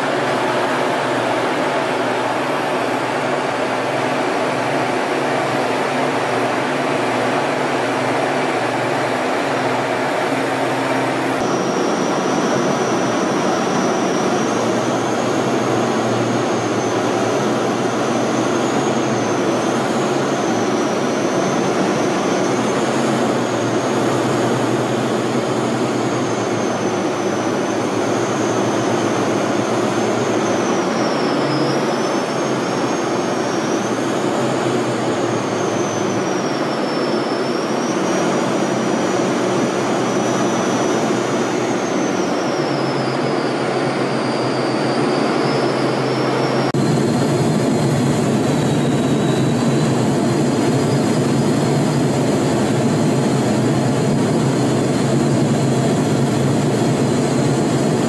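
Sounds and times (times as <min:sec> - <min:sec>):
high whine: 0:00.0 - 0:58.0
jet engine and air rush: 0:00.0 - 0:58.0.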